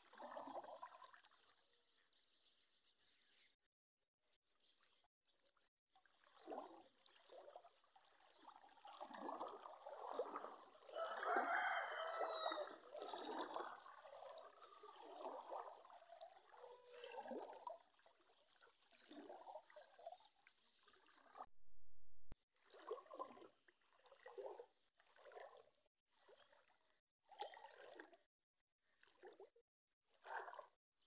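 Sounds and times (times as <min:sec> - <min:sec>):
floodwater sloshing and gurgling: 0:00.0 - 0:02.4, 0:04.6 - 0:21.5, 0:22.3 - 0:30.8.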